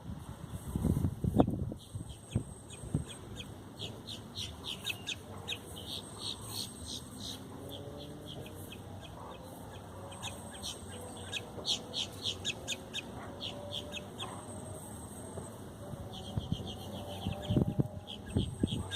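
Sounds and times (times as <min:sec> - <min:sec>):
low wind rumble: 0:00.0 - 0:18.9
birds chirping: 0:01.4 - 0:18.9.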